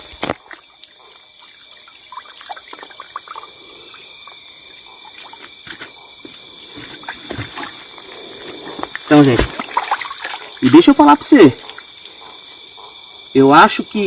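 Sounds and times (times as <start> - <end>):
insect chorus with crickets: 0.0 - 14.0
water trickling and splashing: 0.2 - 12.2.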